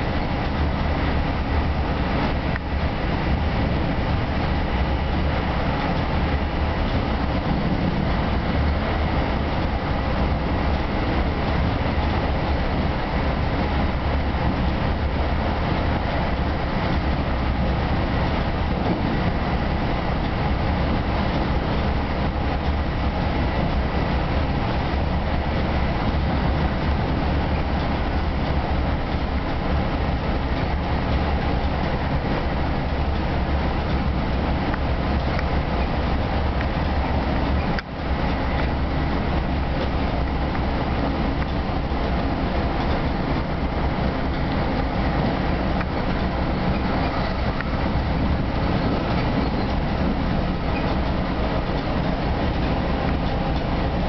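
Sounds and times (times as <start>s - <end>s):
train rumble and rail noise: 0.0s - 54.0s.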